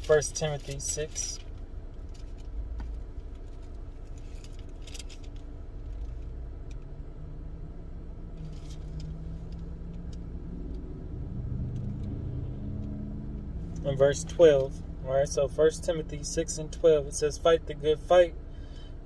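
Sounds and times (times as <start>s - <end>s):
low rumble in car cabin: 0.0s - 19.0s.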